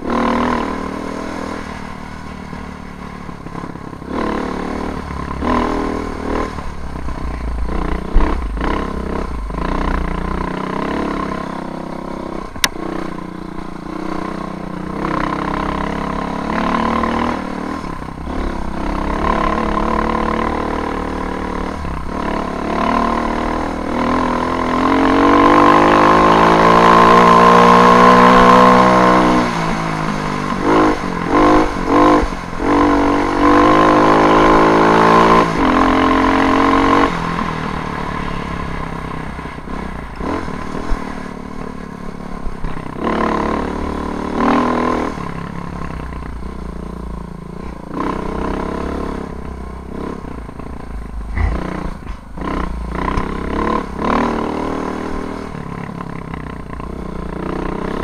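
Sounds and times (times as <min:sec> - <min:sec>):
low rumble of riding: 0:00.0 - 0:26.4, 0:27.1 - 0:58.0
motorcycle engine revving: 0:00.0 - 0:58.0.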